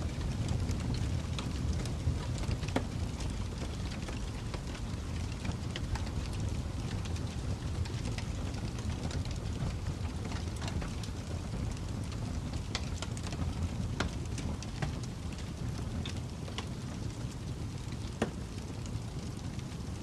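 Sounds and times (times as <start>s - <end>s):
fire crackling: 0.0s - 20.0s
fire popping and snapping: 0.0s - 20.0s.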